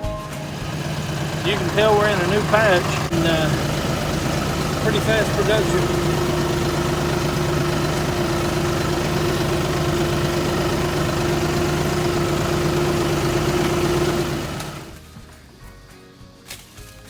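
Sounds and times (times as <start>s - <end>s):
vehicle engine idling: 0.0s - 15.5s.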